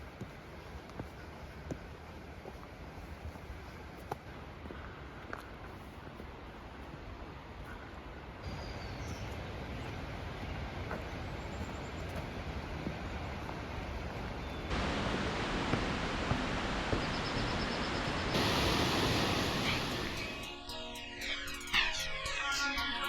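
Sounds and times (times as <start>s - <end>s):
waterfall: 0.0s - 20.5s.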